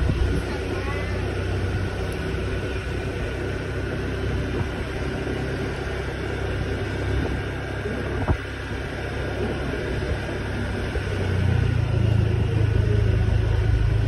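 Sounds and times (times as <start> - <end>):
motor scooter engine running: 0.0 - 14.0
road and wind noise: 0.0 - 14.0.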